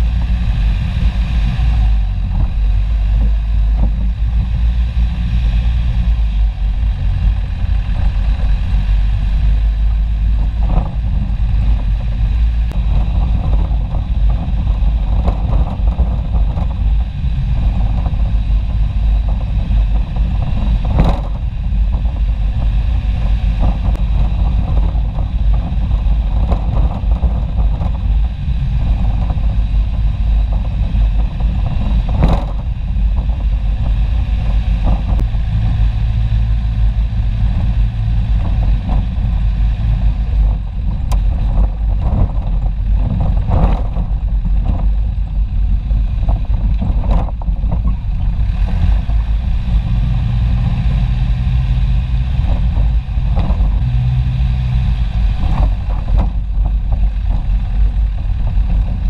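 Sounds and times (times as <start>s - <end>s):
off-road vehicle rumble: 0.0s - 59.0s.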